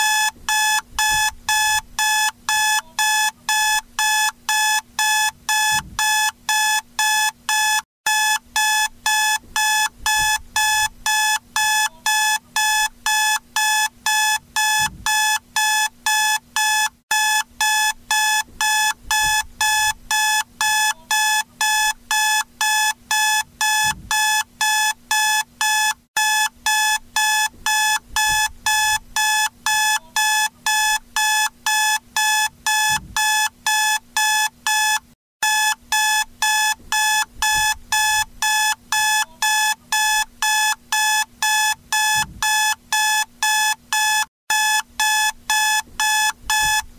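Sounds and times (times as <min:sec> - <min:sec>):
alarm clock beeping: 0:00.0 - 0:46.8.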